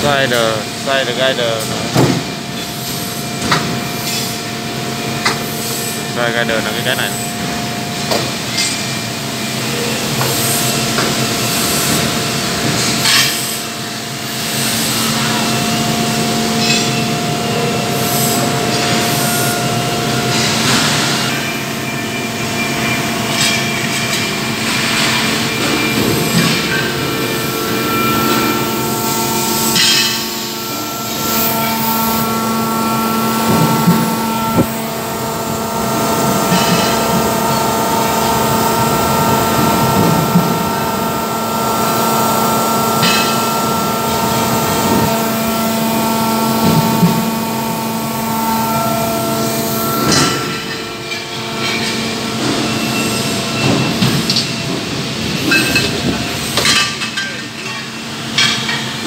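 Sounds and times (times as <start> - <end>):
factory machinery humming: 0.0 - 59.0
machinery clanks and knocks: 0.0 - 59.0.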